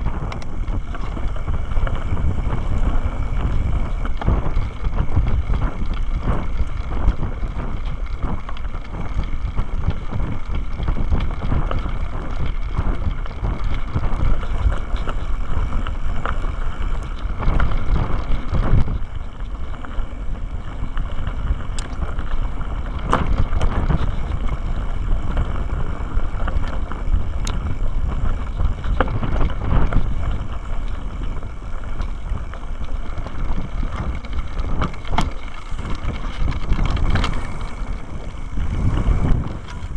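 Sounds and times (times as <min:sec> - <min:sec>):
bike tyres rumbling over dirt: 0:00.0 - 0:39.9
wind buffeting microphone: 0:00.0 - 0:39.9.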